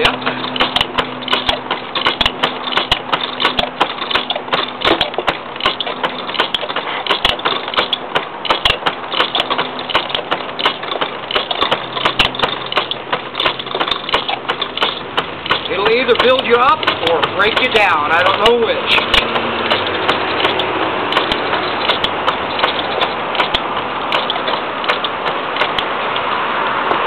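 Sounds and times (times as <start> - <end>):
gouge scraping spinning wood: 0.0 - 27.0.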